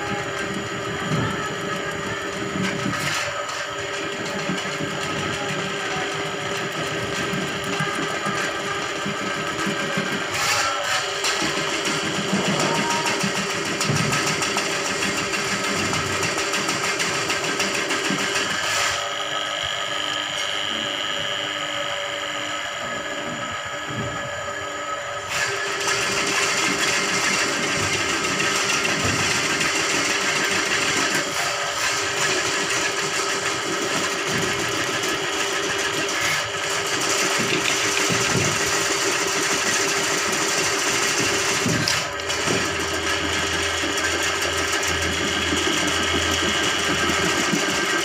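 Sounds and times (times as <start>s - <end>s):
drain-cleaning machine running: 0.0s - 48.0s.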